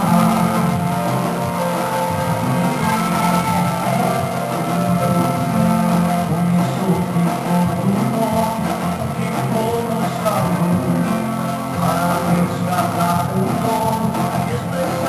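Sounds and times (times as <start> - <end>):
worship music with guitar: 0.0 - 15.0.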